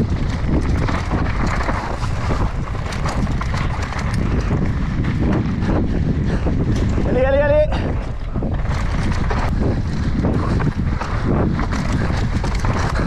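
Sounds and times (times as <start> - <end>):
bike rattling over rough trail: 0.0 - 13.0
wind rushing over microphone: 0.0 - 13.0.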